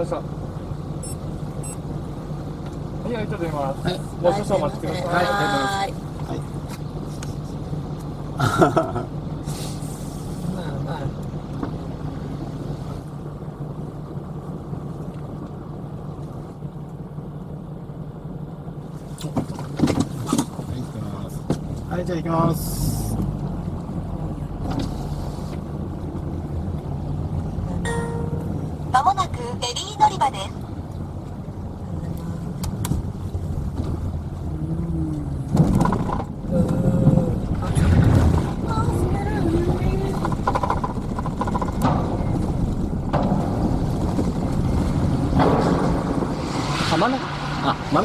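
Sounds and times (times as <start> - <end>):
car rumbling inside cabin: 0.0 - 48.0
vehicle engine idling: 0.0 - 48.0.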